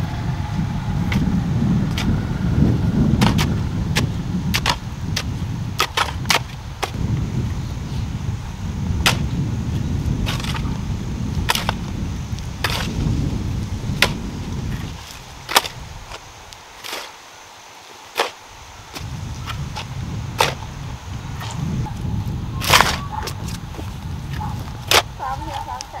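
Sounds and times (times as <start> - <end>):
low rumble: 0.0 - 16.2, 19.0 - 26.0
hoes chopping stony soil: 1.1 - 1.3, 1.9 - 2.2, 3.1 - 7.2, 8.9 - 17.2, 17.9 - 26.0.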